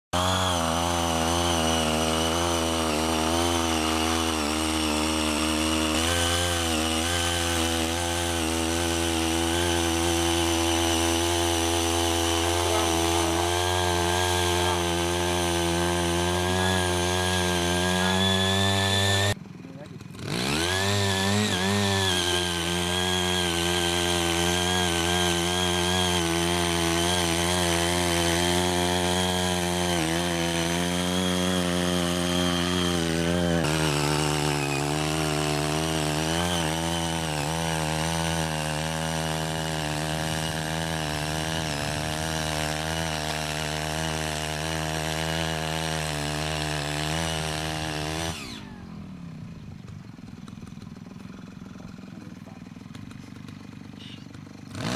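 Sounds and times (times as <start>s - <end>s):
small petrol engine running: 0.2s - 54.9s.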